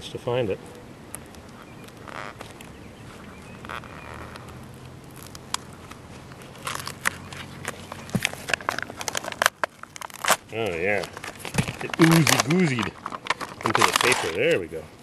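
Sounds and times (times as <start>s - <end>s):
paper backing crackling: 1.2s - 14.8s.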